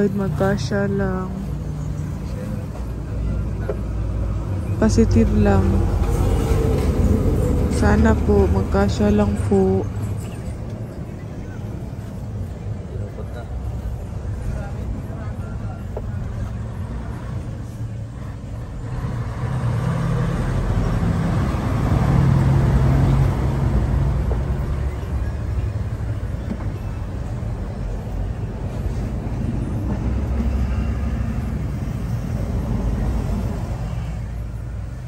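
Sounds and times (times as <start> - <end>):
vehicle engine rumble: 0.0 - 35.0.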